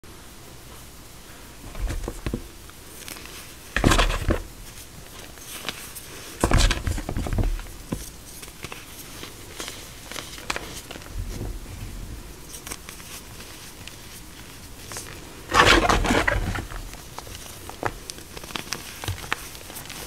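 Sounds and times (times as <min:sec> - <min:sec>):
chalk crumbling by hand: 0:01.6 - 0:11.1, 0:12.4 - 0:20.0.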